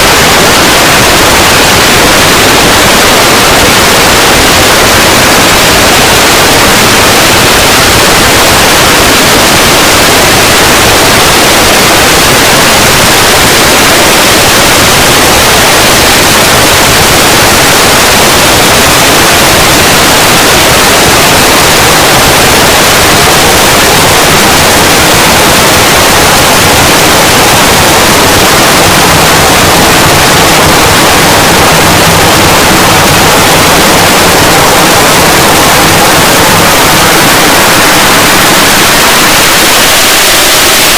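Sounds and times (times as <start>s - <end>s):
loud static noise: 0.0s - 40.9s.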